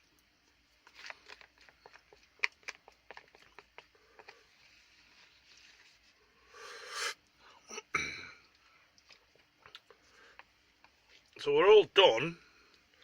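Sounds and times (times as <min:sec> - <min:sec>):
person eating: 0:00.9 - 0:11.3.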